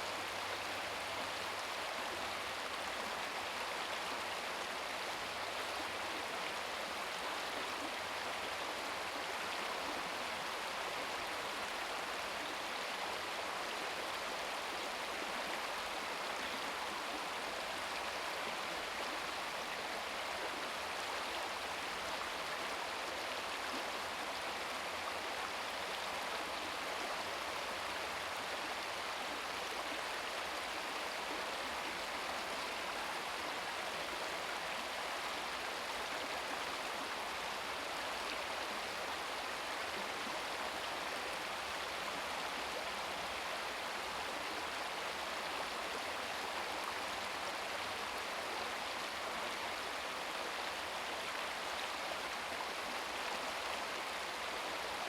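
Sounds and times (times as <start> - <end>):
brook water running over rocks: 0.0 - 55.0.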